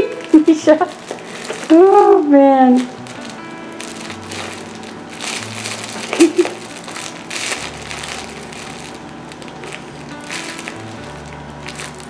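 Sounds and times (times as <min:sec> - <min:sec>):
cat toy crinkling: 0:00.0 - 0:12.0.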